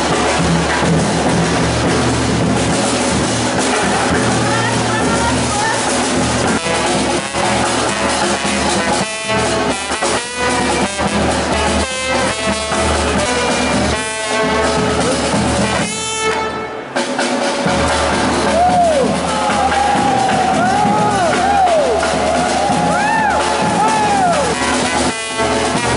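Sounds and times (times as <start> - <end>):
music playing: 0.0 - 25.9.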